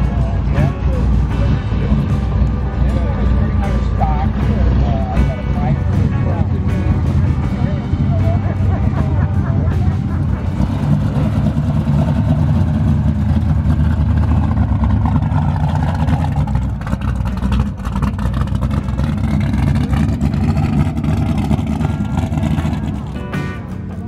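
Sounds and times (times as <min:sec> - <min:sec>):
car engine deep rumble: 0:00.0 - 0:24.0
music: 0:00.0 - 0:24.0.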